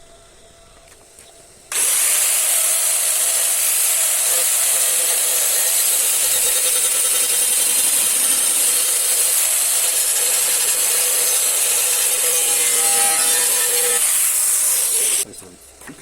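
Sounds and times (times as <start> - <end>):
power sander on car bodywork: 1.7 - 15.2.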